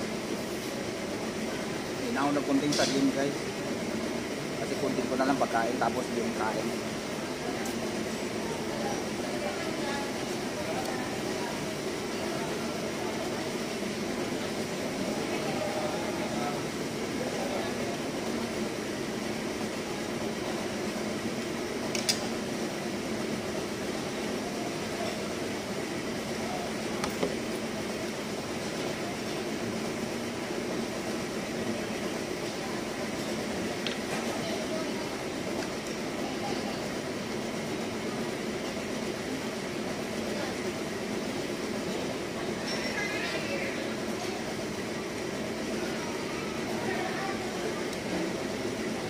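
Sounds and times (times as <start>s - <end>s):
fan whirring: 0.0s - 49.0s.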